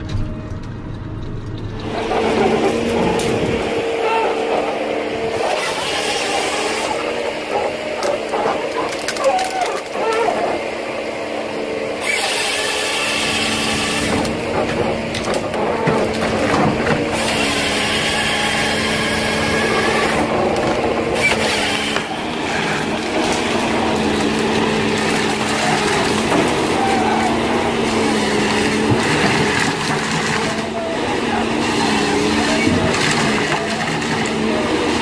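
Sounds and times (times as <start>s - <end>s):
harvester engine hum: 0.0s - 35.0s
chain saw cutting tree trunk: 1.8s - 35.0s.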